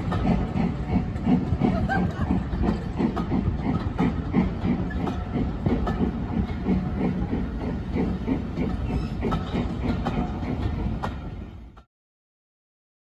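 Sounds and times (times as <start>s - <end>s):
train wheels rumbling: 0.0s - 11.9s
wheel clacks over rail joints: 0.0s - 11.9s.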